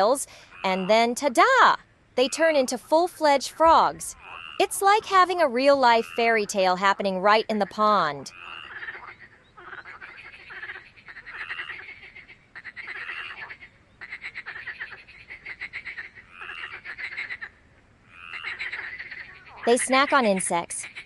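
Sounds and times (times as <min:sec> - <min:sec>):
frogs croaking: 0:00.0 - 0:21.0.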